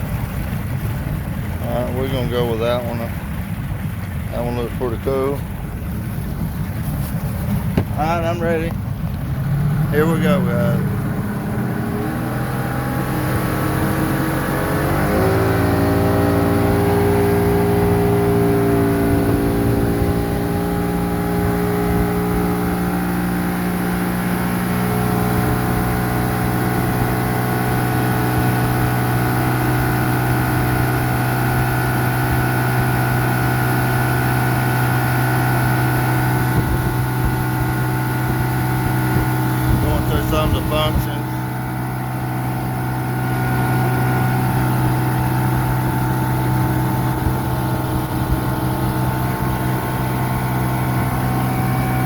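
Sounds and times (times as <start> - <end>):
boat engine revving: 0.0 - 52.0.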